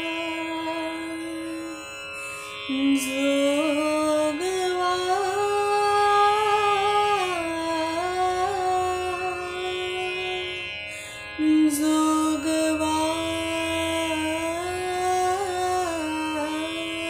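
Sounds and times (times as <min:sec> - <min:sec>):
person singing long ornamented notes: 0:00.0 - 0:17.0.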